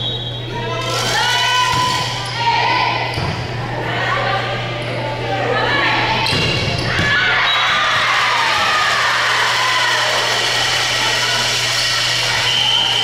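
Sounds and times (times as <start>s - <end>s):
crowd cheering and shouting: 0.5s - 13.0s.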